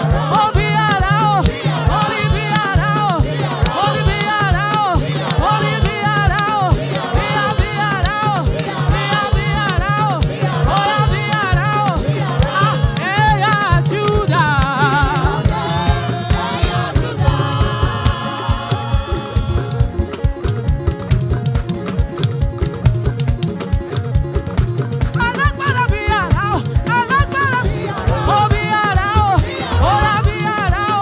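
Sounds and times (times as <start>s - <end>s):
choir singing gospel: 0.0s - 22.6s, 24.4s - 31.0s
held keyboard chords: 0.0s - 31.0s
steady drum beat: 0.0s - 31.0s.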